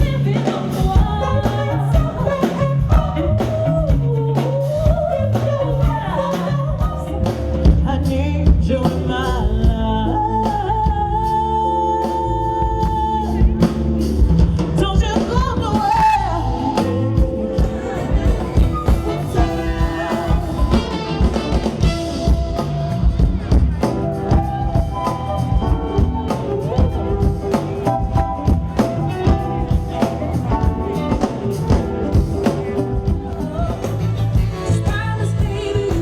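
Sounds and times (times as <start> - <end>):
person singing: 0.0 - 36.0
pop band with bass and drums: 0.0 - 36.0.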